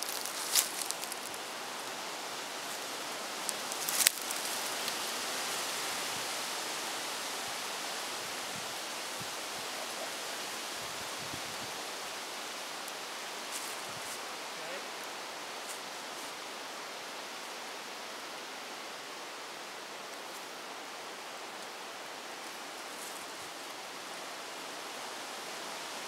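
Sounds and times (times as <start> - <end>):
outdoor hiss: 0.0 - 26.0.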